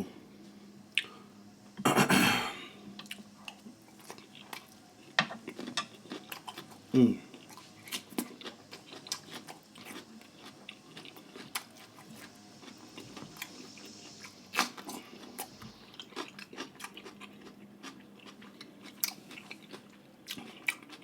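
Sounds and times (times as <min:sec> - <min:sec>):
chewing and crunching food: 0:03.0 - 0:21.0.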